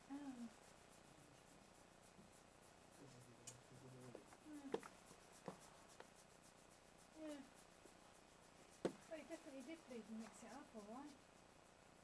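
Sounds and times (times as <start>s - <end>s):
fingers scratching dog fur: 0.0s - 11.8s.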